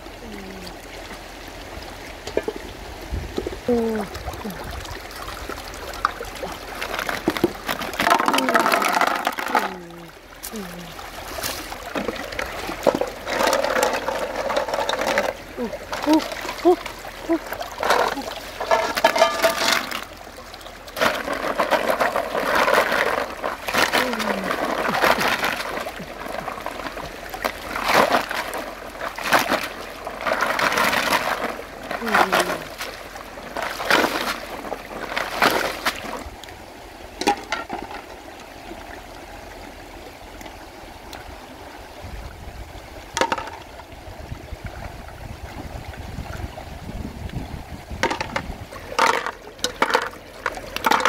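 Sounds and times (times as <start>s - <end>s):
stream rushing: 0.0s - 51.0s
water splashing: 0.0s - 51.0s.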